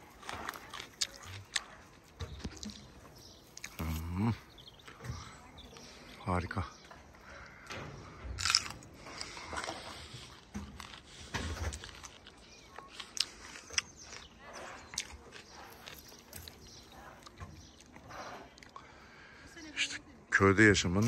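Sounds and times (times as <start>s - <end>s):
person chewing crisp plums: 0.0s - 19.4s.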